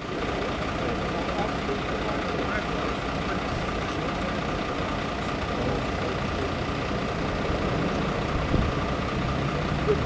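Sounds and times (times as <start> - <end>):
heavy engine idling: 0.0 - 10.0.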